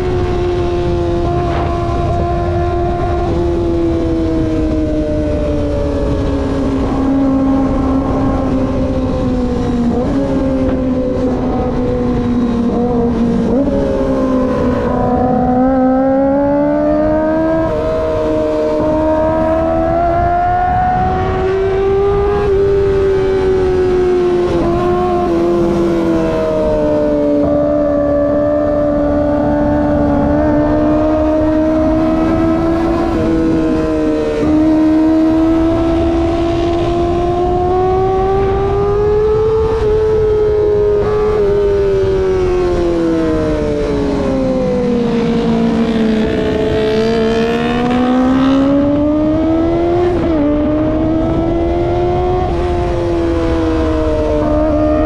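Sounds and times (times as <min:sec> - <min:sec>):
high-pitched motorcycle engine: 0:00.0 - 0:55.0.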